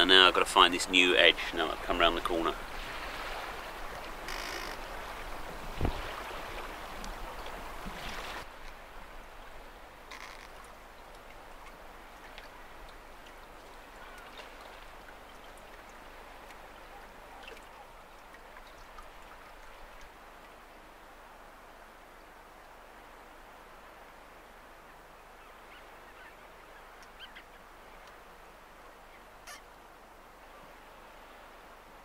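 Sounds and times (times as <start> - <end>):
distant waterbirds calling: 0.0 - 21.0, 24.6 - 31.5
wind and water noise: 0.0 - 32.0.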